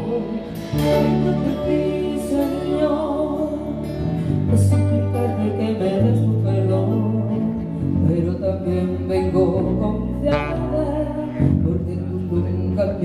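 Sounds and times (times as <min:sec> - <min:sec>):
acoustic guitar: 0:00.0 - 0:13.0
electric bass: 0:00.0 - 0:13.0
woman singing: 0:00.0 - 0:13.0.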